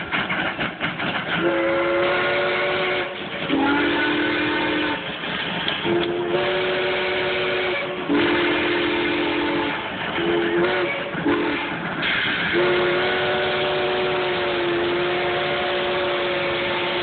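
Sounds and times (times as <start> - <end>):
steam locomotive whistle: 1.4 - 5.1, 5.8 - 17.0.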